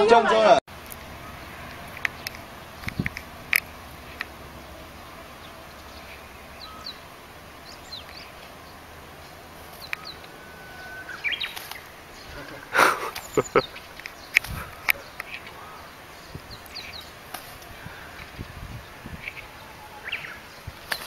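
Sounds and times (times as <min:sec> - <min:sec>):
outdoor background hiss: 0:00.0 - 0:21.0
bird chirps: 0:01.0 - 0:21.0.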